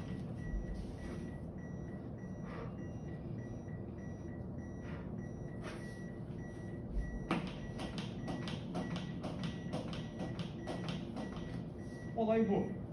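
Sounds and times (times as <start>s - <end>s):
metronome high beeps: 0.0s - 12.9s.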